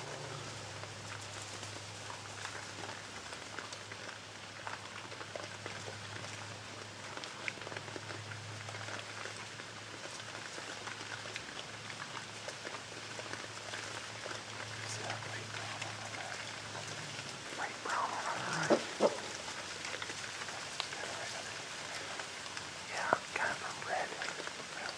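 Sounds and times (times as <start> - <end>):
hogs chewing and crunching leaves: 0.0 - 24.9
low steady hum: 0.0 - 24.9.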